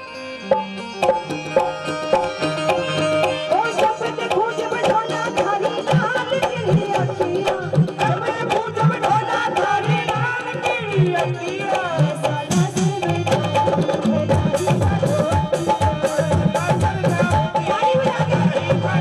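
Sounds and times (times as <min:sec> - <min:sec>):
pitch-bending folk melody: 0:00.0 - 0:19.0
hand drums beating rhythm: 0:00.5 - 0:19.0.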